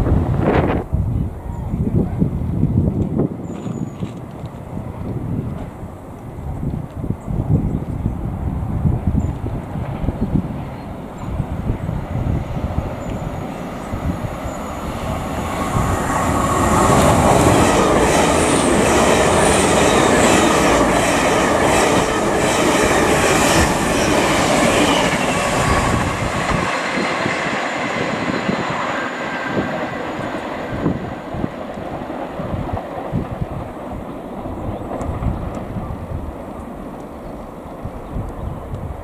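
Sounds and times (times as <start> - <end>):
train passing: 0.0 - 39.0.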